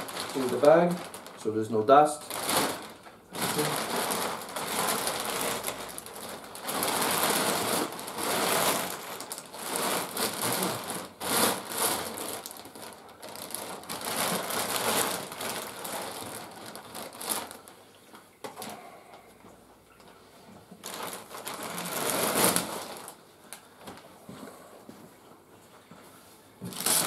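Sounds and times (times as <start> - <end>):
plastic bag rustling and crinkling: 0.0 - 18.8, 20.6 - 24.2, 26.6 - 27.0.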